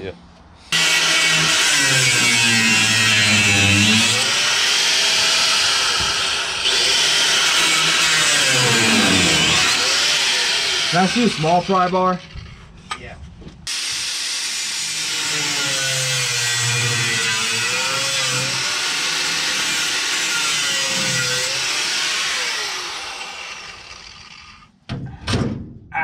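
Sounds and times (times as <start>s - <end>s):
handheld power tool running: 0.8s - 12.6s, 13.7s - 24.7s.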